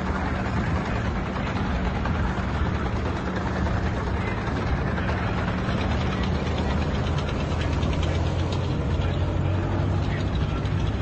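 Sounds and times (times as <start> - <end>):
military vehicle engines droning: 0.0 - 11.0.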